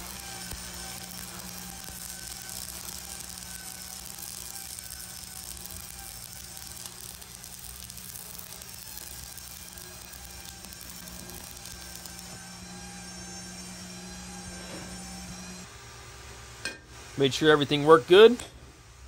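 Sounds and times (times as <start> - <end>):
low hum: 0.0 - 15.7
welding arc crackling: 0.0 - 15.7.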